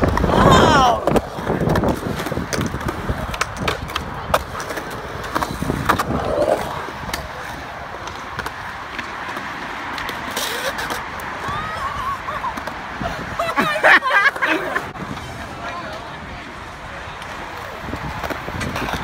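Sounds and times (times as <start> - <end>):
skateboard clicks and knocks: 0.0 - 19.0
skateboard wheels rolling on concrete: 0.0 - 19.0.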